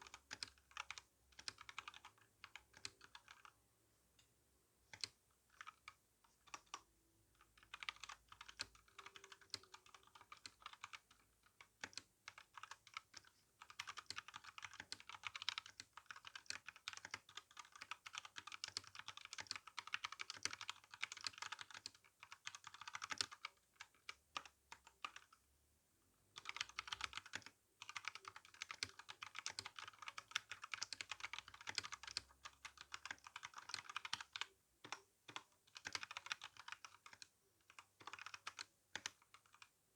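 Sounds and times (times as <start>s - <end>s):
mechanical keyboard typing: 0.0s - 3.5s, 7.4s - 25.4s, 26.4s - 39.7s.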